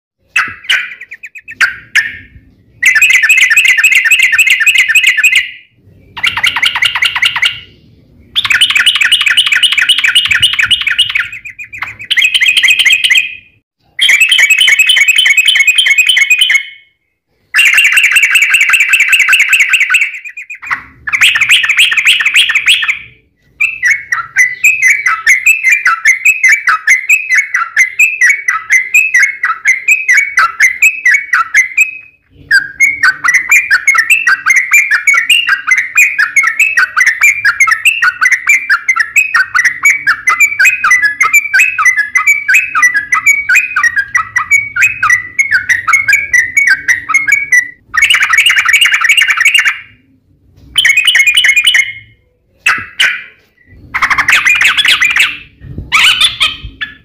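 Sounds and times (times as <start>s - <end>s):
bird chattering song: 0.2s - 50.1s, 50.8s - 57.0s.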